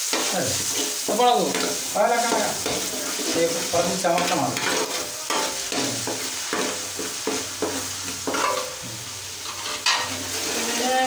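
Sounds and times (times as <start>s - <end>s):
garlic sizzling in hot oil: 0.0s - 11.0s
spoon scraping pan: 0.0s - 11.0s.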